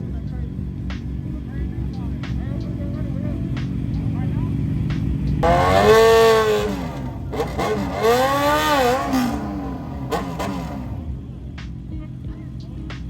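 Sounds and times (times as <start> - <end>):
car engine revving: 0.0 - 13.0
low engine idle rumble: 0.0 - 13.0.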